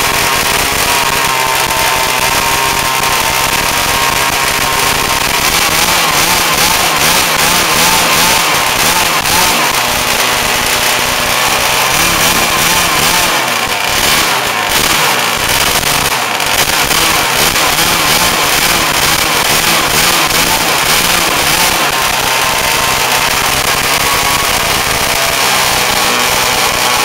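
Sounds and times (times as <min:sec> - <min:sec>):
two-stroke engine running: 0:00.0 - 0:27.0.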